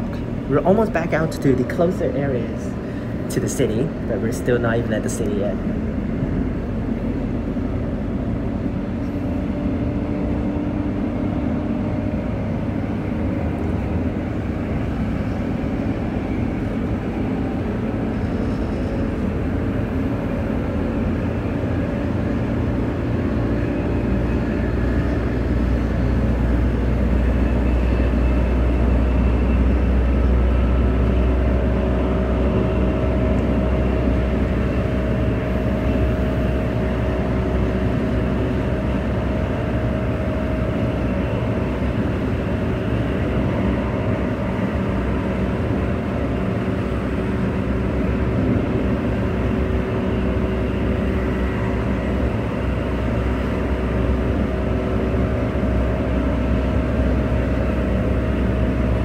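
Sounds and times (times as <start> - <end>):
train rumbling inside carriage: 0.0 - 59.0.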